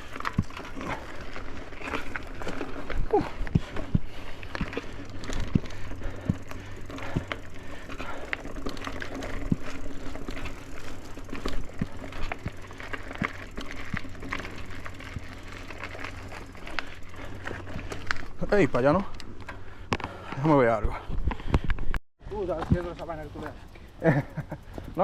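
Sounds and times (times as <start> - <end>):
bike clicks and rattles: 0.0 - 25.0.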